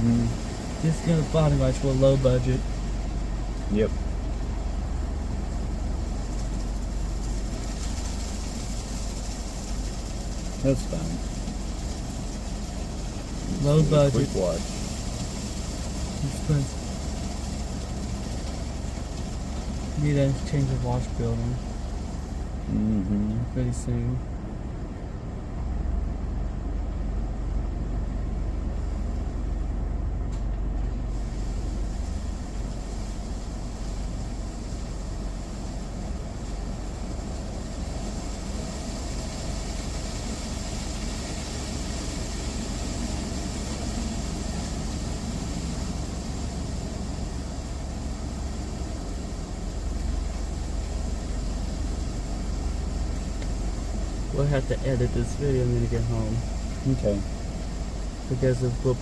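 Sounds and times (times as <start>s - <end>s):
car wash spray hiss: 0.0s - 25.0s, 31.0s - 59.0s
car idling from inside: 0.0s - 59.0s.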